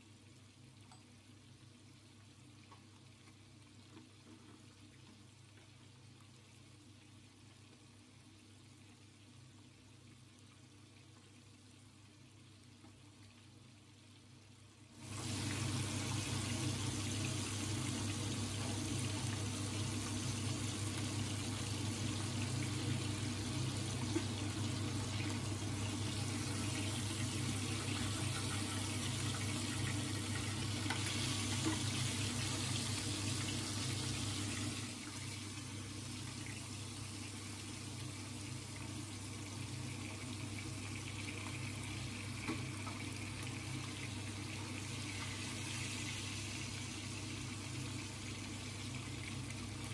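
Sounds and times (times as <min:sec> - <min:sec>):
fish sizzling in hot oil: 0:01.6 - 0:49.9.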